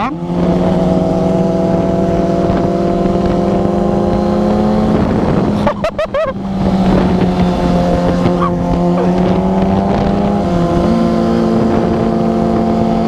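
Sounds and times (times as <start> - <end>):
motorcycle engine cruising: 0.0 - 13.0
wind rushing: 0.2 - 13.0.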